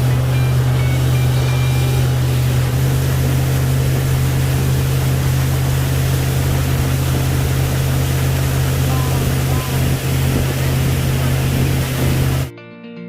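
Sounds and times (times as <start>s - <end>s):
boat engine droning: 0.0s - 12.5s
wind and water rushing: 0.0s - 12.5s.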